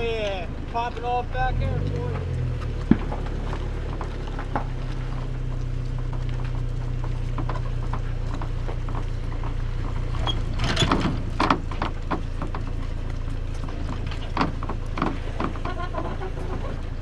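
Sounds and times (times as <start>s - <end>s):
boat motor humming: 0.0s - 17.0s
light clicks and knocks: 1.8s - 17.0s
clattering: 2.6s - 17.0s.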